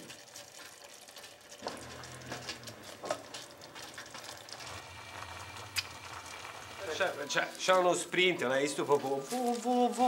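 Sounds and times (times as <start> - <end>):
sauce bubbling and sizzling: 0.0 - 10.0.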